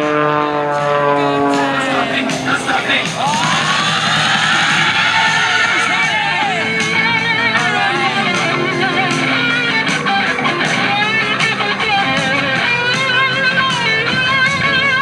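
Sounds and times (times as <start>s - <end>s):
rock music: 0.0s - 15.0s
electric guitar solo: 0.1s - 15.0s.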